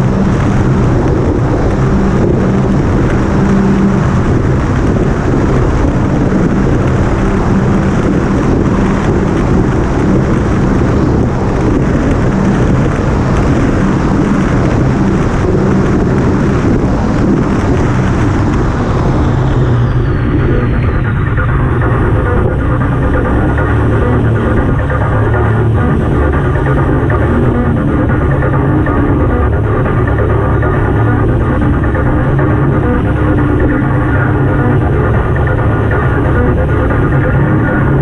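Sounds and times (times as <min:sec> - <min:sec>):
motorboat engine drone: 0:00.0 - 0:38.0
water rushing past hull: 0:00.0 - 0:38.0
wind buffeting microphone: 0:00.0 - 0:38.0.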